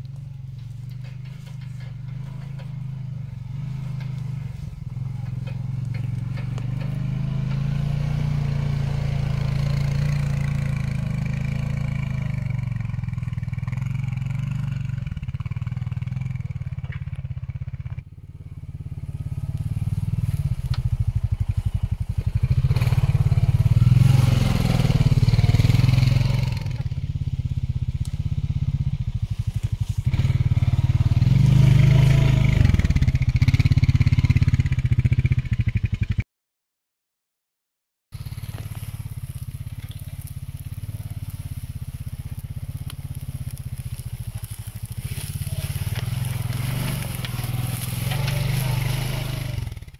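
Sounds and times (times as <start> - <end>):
atv engine revving: 0.0 - 36.2, 38.2 - 49.9.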